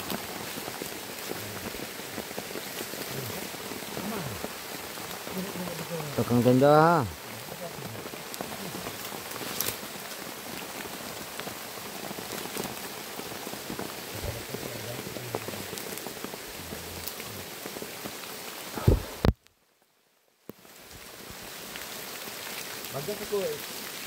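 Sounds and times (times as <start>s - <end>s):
single raindrops: 0.0s - 24.0s
steady rain falling: 0.0s - 24.0s.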